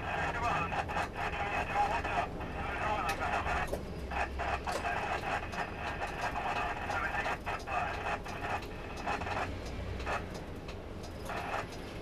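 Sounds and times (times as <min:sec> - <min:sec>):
muffled voices: 0:00.0 - 0:10.2
bus engine low rumble: 0:00.0 - 0:12.0.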